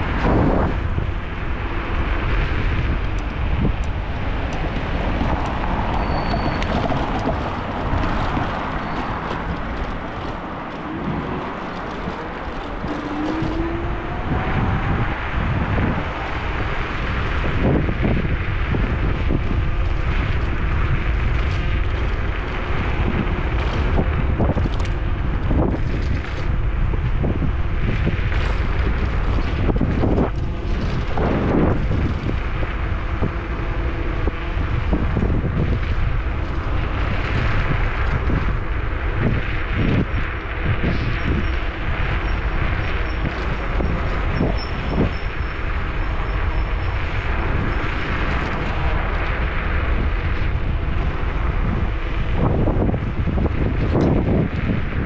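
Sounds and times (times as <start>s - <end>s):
road rumble: 0.0s - 55.0s
wind buffeting microphone: 0.0s - 55.0s.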